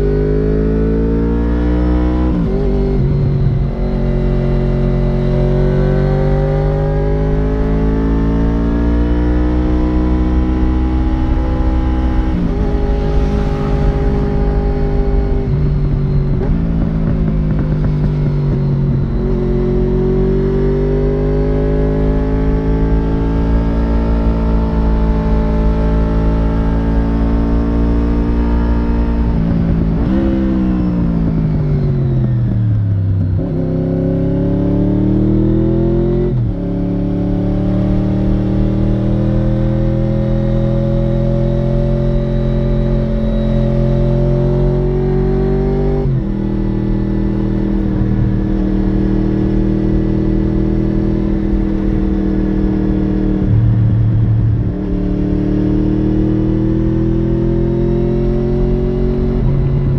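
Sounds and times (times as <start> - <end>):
motorcycle engine revving: 0.0 - 59.9
wind rumble: 1.8 - 6.2, 9.3 - 34.2, 35.4 - 59.9.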